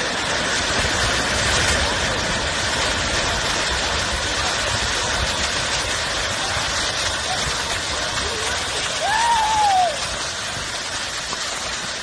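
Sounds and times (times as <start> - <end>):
deep rumble: 0.0 - 12.0
rockslide roar: 0.0 - 12.0.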